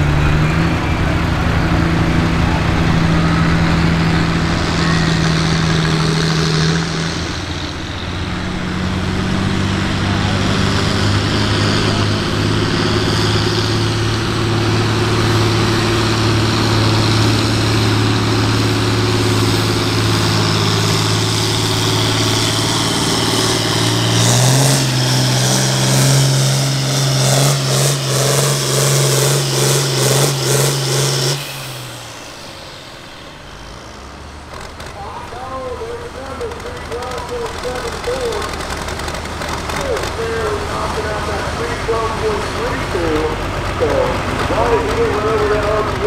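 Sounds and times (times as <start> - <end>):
diesel tractor engine droning: 0.0 - 46.0.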